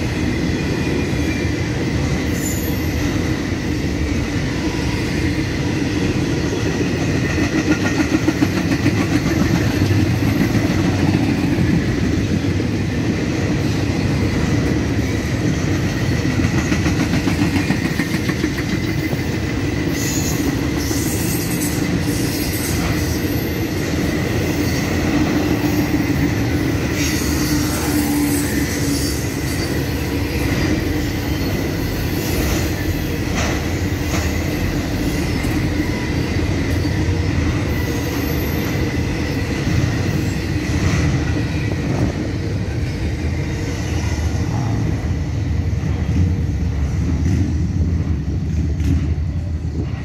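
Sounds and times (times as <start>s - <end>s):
steel wheels rumbling on rail: 0.0s - 50.0s.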